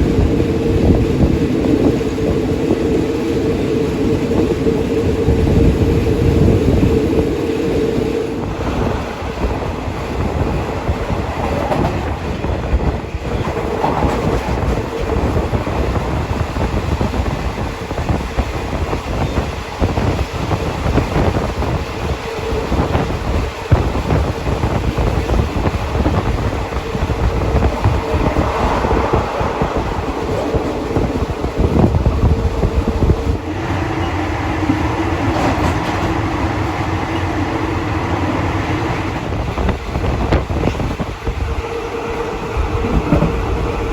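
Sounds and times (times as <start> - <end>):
wheels clacking over track: 0.0 - 41.5
train wheels rumbling: 0.0 - 43.9.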